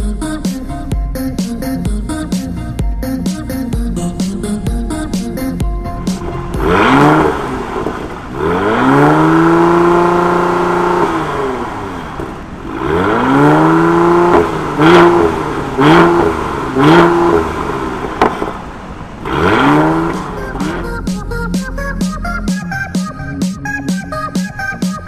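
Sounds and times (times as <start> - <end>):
car engine revving: 0.0 - 25.0
engine idling: 0.0 - 25.0
exhaust crack: 2.8 - 25.0.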